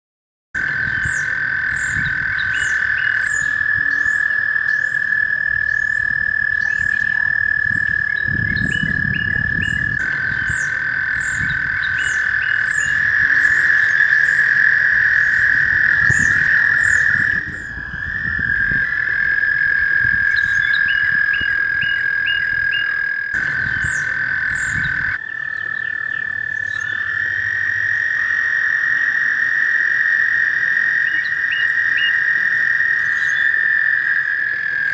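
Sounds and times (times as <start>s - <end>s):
frog chirps: 0.6s - 34.9s
frogs trilling: 0.6s - 34.9s.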